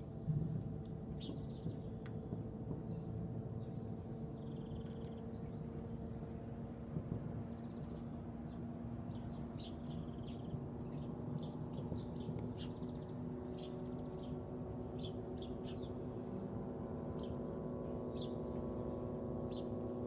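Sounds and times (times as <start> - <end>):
steady low hum: 0.0 - 20.0
small birds chirping: 1.1 - 6.4, 7.5 - 16.4, 17.1 - 19.9.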